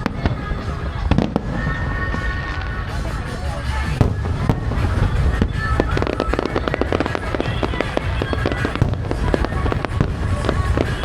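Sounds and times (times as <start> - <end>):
fireworks crackling and popping: 0.0 - 11.0
fireworks low booms: 0.0 - 11.0
music playing: 0.0 - 11.0.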